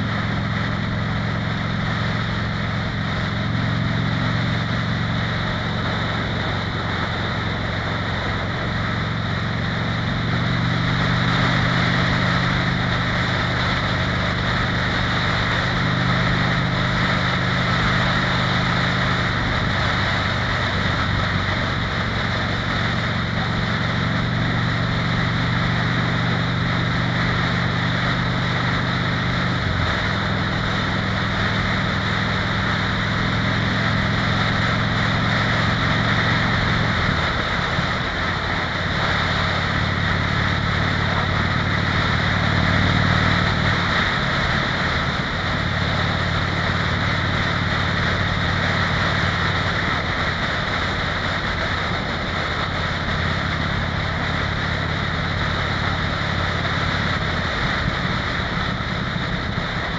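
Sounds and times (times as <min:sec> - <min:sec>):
motorcycle engine cruising: 0:00.0 - 0:59.9
wind and tyre rush: 0:00.0 - 0:59.9.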